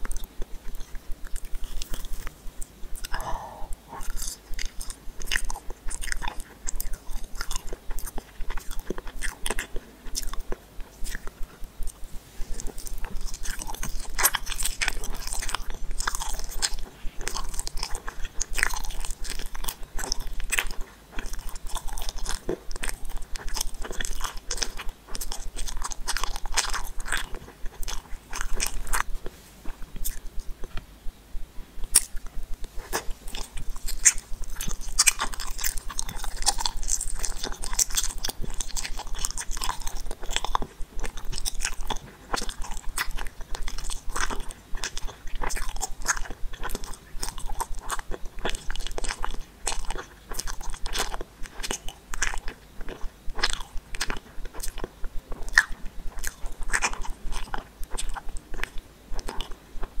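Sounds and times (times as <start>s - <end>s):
wet sticky chewing: 0.0s - 30.9s, 31.8s - 60.0s.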